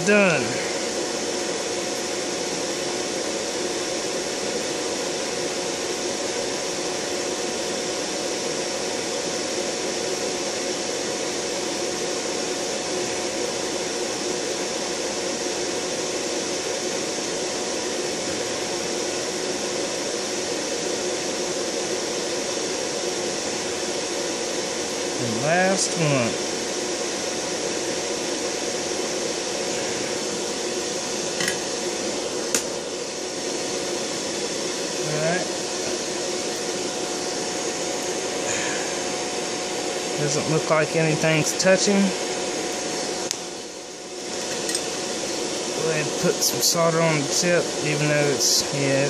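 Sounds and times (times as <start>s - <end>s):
fan rushing air: 0.0s - 49.0s.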